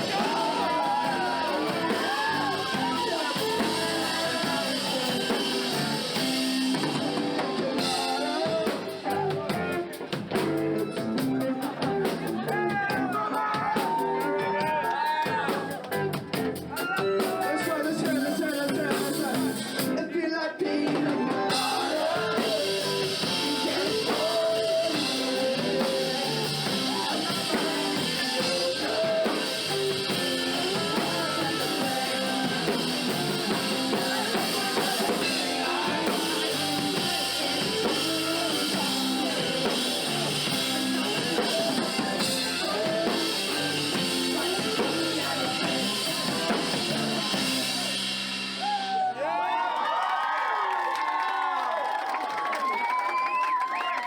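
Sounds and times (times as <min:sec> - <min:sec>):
person singing: 0:00.0 - 0:16.1, 0:16.7 - 0:49.0
live rock band playing: 0:00.0 - 0:20.2, 0:20.8 - 0:49.0.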